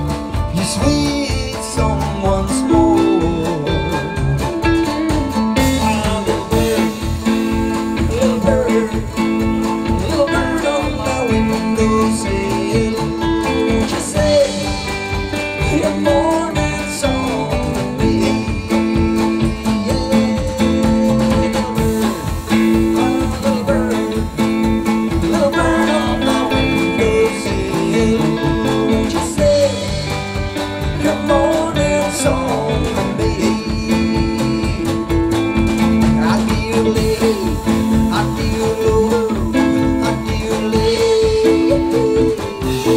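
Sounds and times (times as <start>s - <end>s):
acoustic country band playing: 0.0s - 42.9s.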